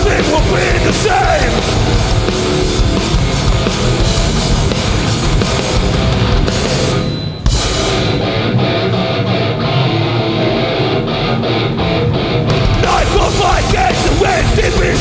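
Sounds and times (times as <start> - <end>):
punk band playing: 0.0 - 15.0.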